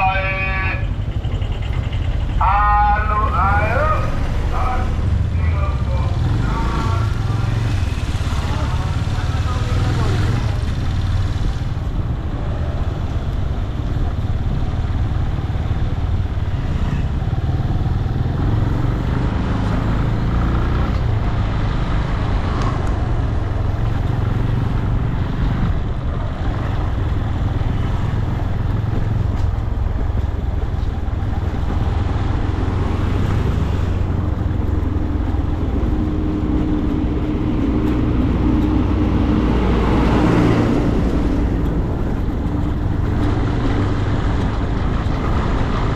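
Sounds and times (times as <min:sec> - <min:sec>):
motorcycle engine running: 0:00.0 - 0:45.9
traffic noise: 0:00.0 - 0:45.9.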